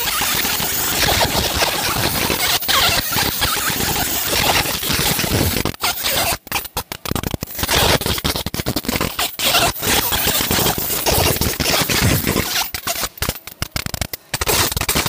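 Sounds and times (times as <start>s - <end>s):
laser crackling sizzle on metal: 0.0s - 15.0s.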